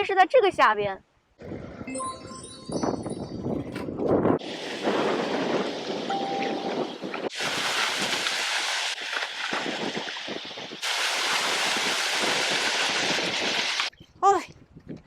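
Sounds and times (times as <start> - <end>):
rushing wind: 2.7 - 15.0.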